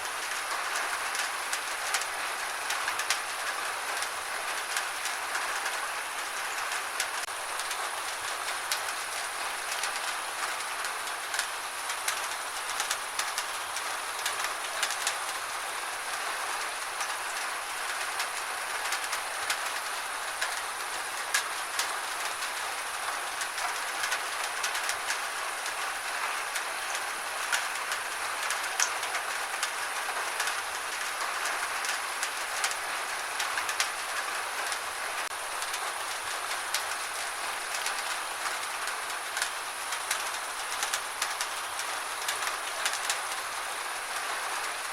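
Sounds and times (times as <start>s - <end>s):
gentle rain hiss: 0.0s - 44.9s.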